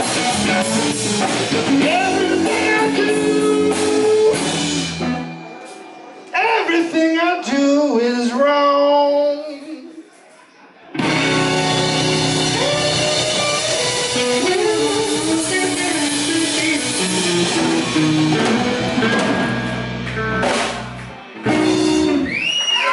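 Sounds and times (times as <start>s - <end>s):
blues band playing: 0.0s - 7.7s, 11.0s - 22.9s.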